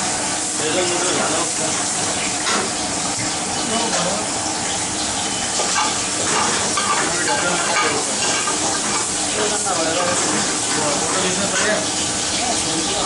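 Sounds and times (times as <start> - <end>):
cooking sizzling hiss: 0.0 - 13.0.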